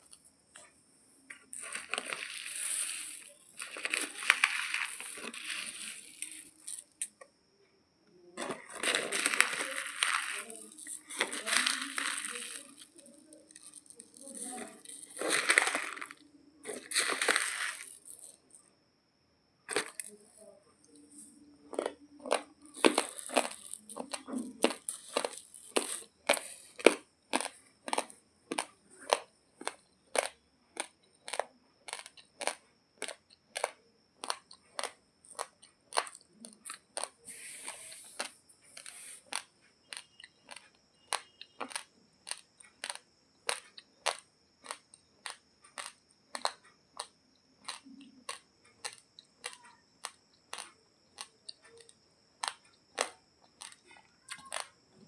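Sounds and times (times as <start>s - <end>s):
crisp crunching of raw rice: 1.3s - 7.3s, 8.4s - 18.6s, 19.7s - 20.4s, 21.7s - 55.0s.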